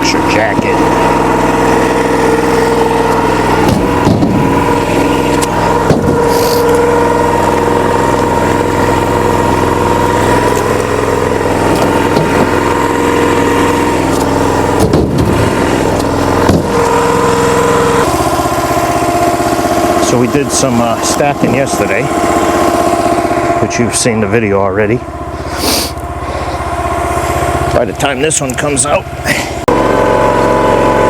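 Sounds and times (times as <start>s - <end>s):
log splitter engine whining: 0.0s - 31.0s.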